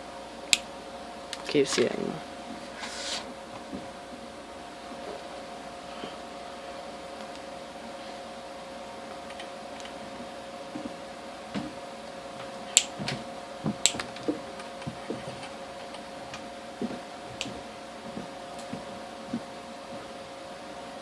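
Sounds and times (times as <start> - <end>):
two-note electrical hum: 0.0 - 21.0.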